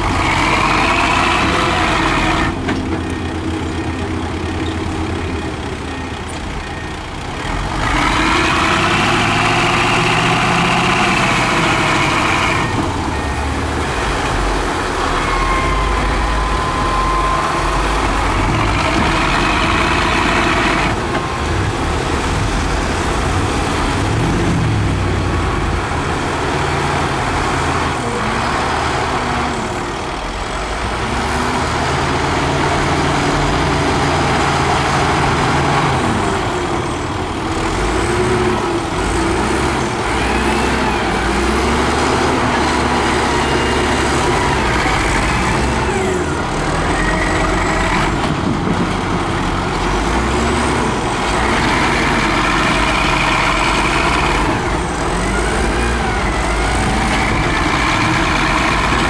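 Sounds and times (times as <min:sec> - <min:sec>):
heavy diesel machinery revving: 0:00.0 - 0:59.0.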